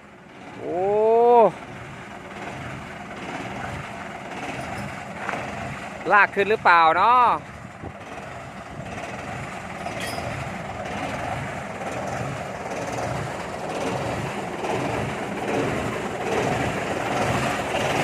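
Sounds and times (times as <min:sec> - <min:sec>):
truck engine rumbling and rattling: 0:00.0 - 0:18.0.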